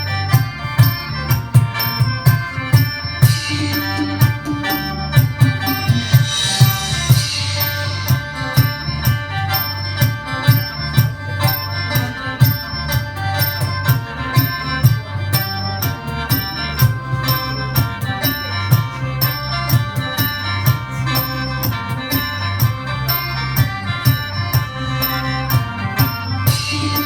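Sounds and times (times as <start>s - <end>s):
mouth organ playing chords: 0.0s - 27.0s
steady drum beat: 0.0s - 27.0s.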